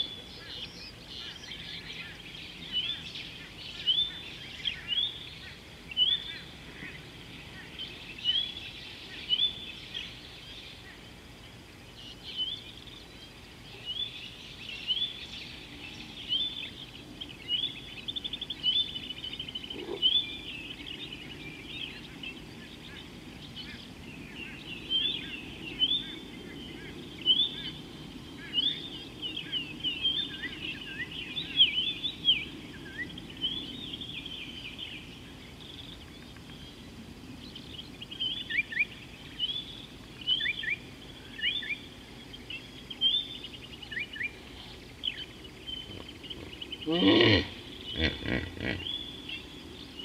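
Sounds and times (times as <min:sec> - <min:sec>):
birds chirping: 0:00.0 - 0:50.0
low background noise: 0:00.0 - 0:50.0.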